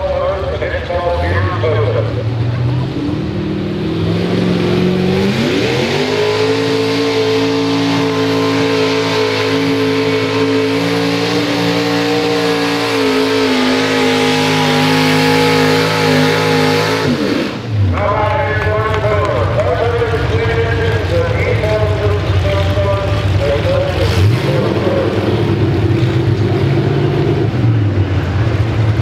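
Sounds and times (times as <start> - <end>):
tractor engine revving: 0.0 - 29.0.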